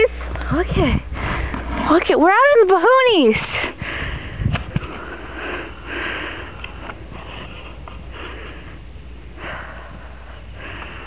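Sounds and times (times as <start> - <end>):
wind rumbling on microphone: 0.1 - 2.6, 3.2 - 11.0.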